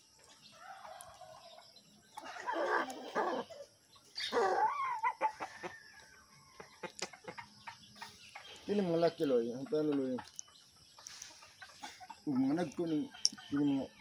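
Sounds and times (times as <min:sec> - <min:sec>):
chickens and rooster calling: 0:00.1 - 0:14.0.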